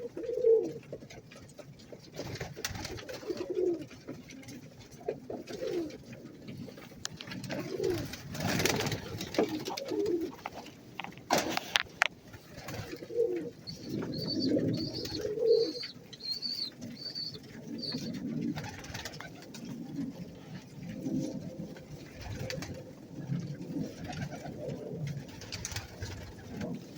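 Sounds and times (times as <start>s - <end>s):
pigeons cooing: 0.0s - 26.9s
rustling bursts: 0.8s - 26.9s.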